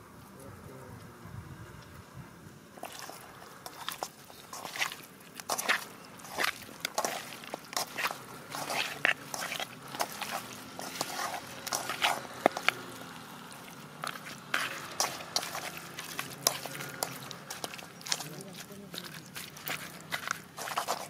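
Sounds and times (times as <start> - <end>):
hand squishing wet chicken: 2.8 - 21.0.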